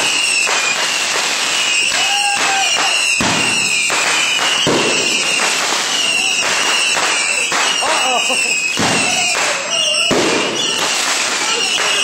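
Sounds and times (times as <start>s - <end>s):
fireworks bangs: 0.0s - 12.0s
fireworks hissing crackle: 0.0s - 12.0s.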